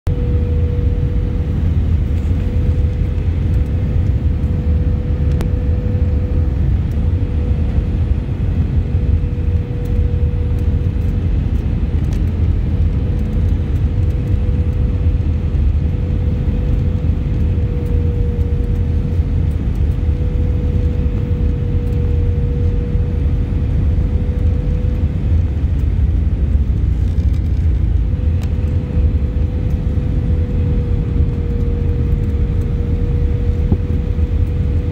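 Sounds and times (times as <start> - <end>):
airplane cabin rumble: 0.1 - 34.9.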